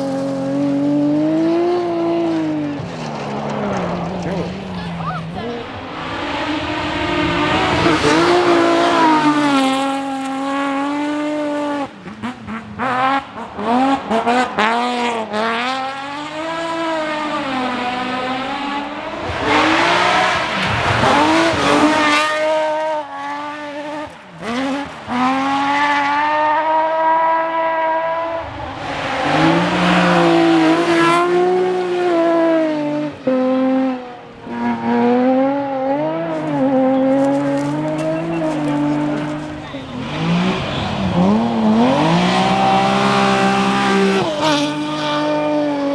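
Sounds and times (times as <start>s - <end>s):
rally car engines at full throttle: 0.0s - 45.9s.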